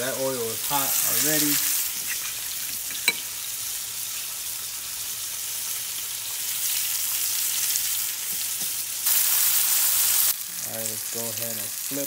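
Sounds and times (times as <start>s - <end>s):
fish sizzling in frying oil: 0.0s - 12.0s.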